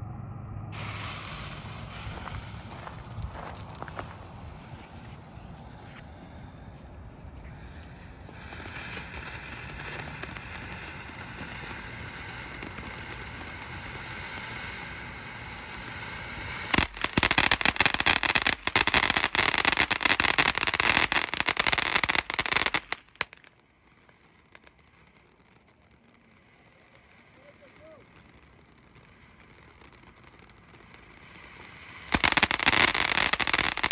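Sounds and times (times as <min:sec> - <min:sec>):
firework crackling: 0:00.7 - 0:33.9
firework hissing: 0:00.7 - 0:33.9.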